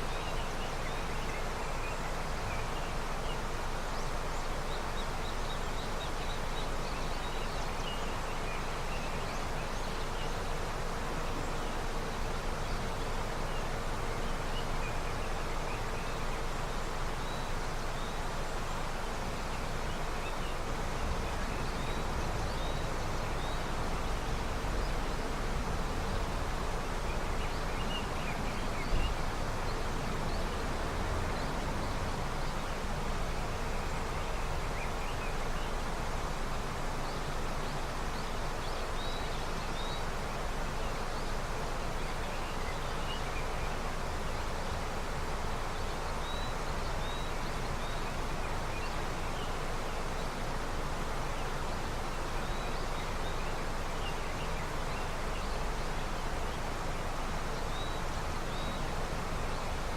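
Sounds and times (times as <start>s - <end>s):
river water rushing: 0.0s - 59.9s
small birds chirping: 0.0s - 59.9s.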